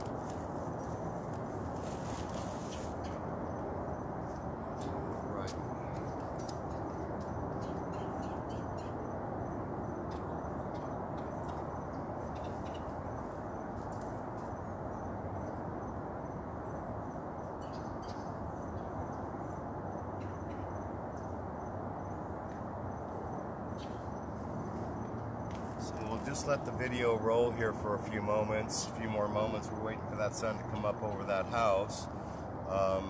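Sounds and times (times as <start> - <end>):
insects trilling: 0.0 - 33.0
steady background hiss: 0.0 - 33.0.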